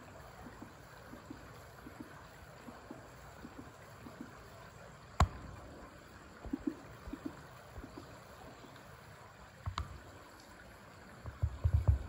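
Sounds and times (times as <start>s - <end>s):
small river flowing: 0.0s - 12.0s.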